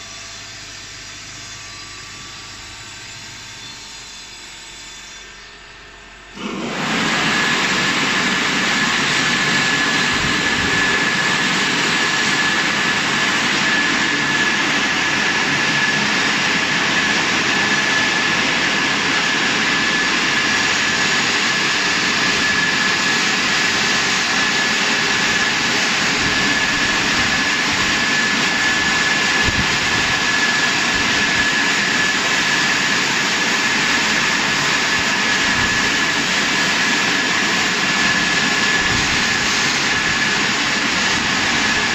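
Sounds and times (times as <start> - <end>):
thin high whine: 0.0 - 41.9
car wash machine rushing: 6.4 - 41.9.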